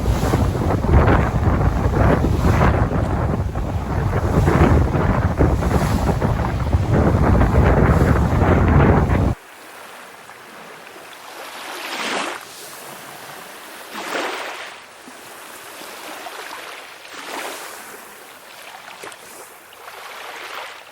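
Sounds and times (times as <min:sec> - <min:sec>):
small waves breaking: 0:00.0 - 0:20.9.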